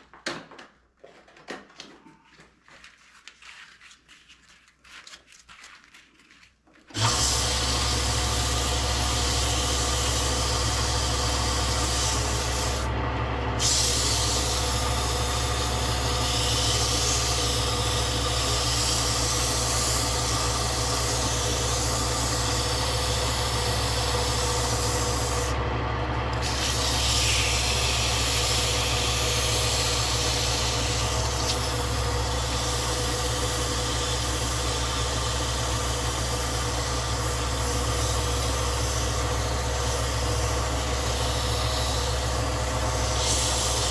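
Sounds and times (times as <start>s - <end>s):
woodworking power tool humming: 6.9s - 43.9s
hiss of tool cutting wood: 7.0s - 12.9s, 13.6s - 25.6s, 26.4s - 43.9s.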